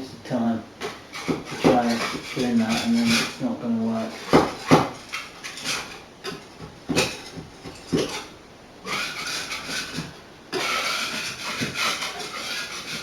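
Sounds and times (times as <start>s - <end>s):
items scraping and rustling: 0.0s - 13.0s.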